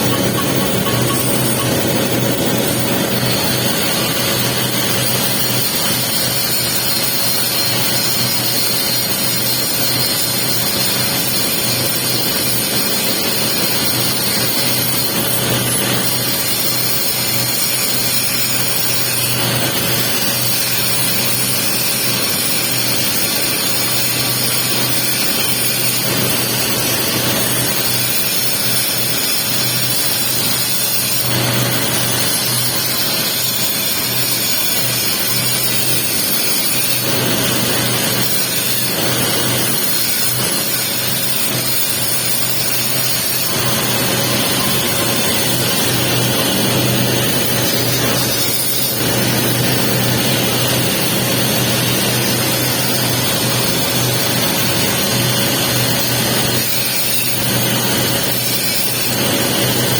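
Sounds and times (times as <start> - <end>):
welding arc crackling and hissing: 0.0 - 59.9.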